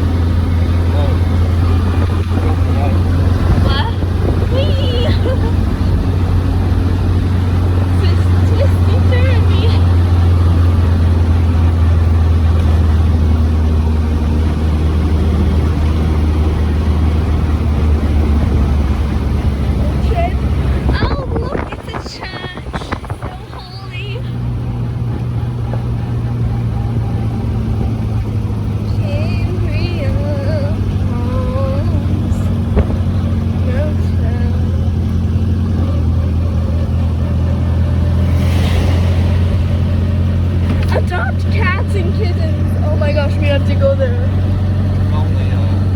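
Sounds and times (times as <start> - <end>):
car engine drone: 0.0 - 45.9
road and wind noise: 0.0 - 45.9.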